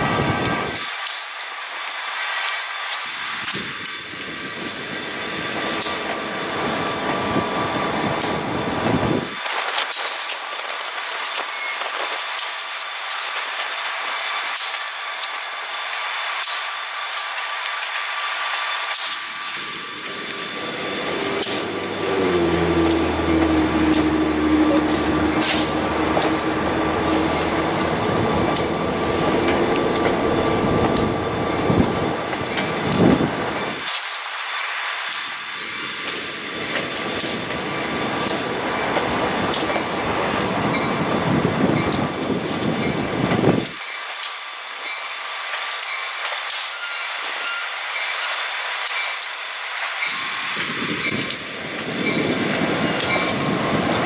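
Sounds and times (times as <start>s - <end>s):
diesel locomotive engine drone: 0.0s - 54.0s
train cars rolling in rain: 0.0s - 54.0s.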